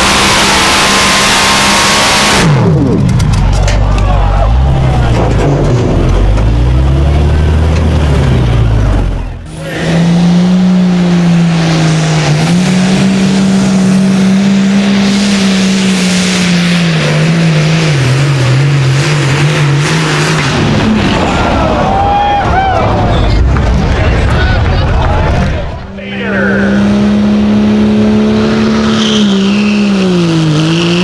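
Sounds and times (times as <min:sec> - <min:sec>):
tractor engine running hard: 0:00.0 - 0:31.0.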